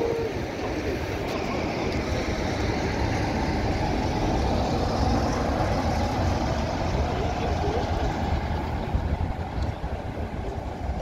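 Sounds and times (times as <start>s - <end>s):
diesel locomotive engine: 0.0s - 11.0s
train wheels rumbling on track: 0.0s - 11.0s.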